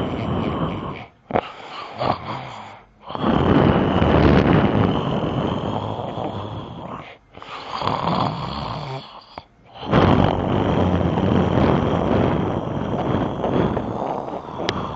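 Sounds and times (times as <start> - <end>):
person snoring: 0.0 - 14.9.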